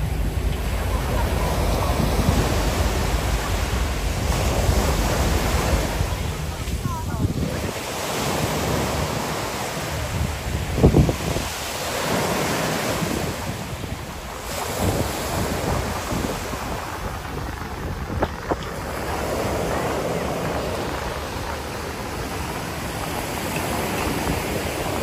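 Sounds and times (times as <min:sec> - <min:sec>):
ocean surf washing onto beach: 0:00.0 - 0:25.0
wind on microphone: 0:00.0 - 0:25.0.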